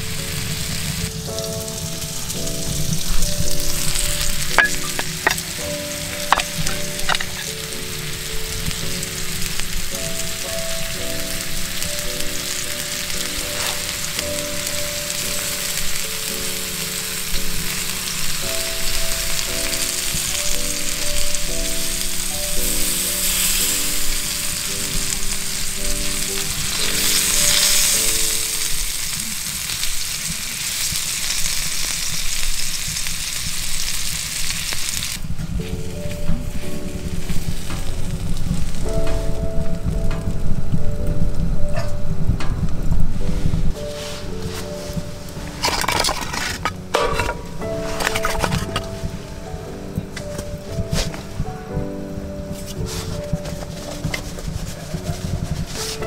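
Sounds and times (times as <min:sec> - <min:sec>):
scallops sizzling on griddle: 0:00.0 - 0:40.5, 0:43.2 - 0:49.6.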